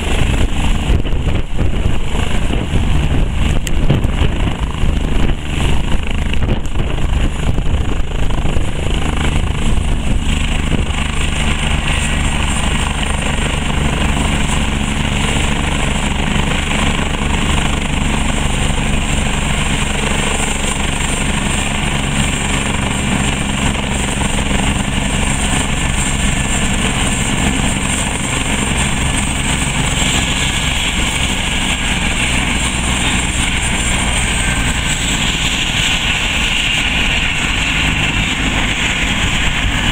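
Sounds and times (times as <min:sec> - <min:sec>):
helicopter rotor beat: 0:00.0 - 0:39.9
helicopter turbine whine: 0:00.0 - 0:39.9.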